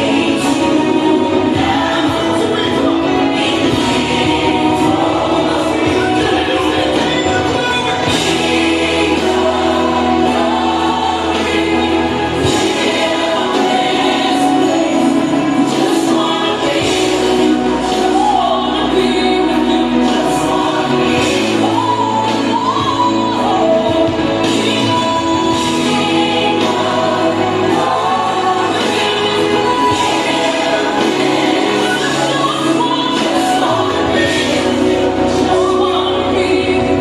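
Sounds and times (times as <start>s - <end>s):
choir singing gospel: 0.0s - 37.0s.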